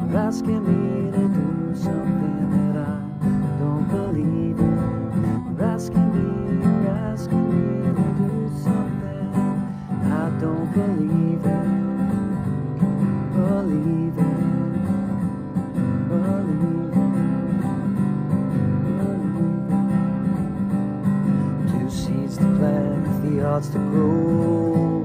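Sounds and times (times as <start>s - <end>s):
man singing: 0.0s - 17.6s, 21.4s - 25.0s
acoustic guitar strumming: 0.0s - 25.0s.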